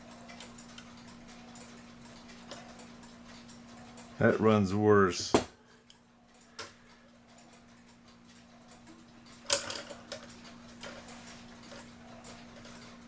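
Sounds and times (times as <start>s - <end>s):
clock ticking unevenly: 0.0s - 13.0s
faint steady hum: 0.0s - 13.0s.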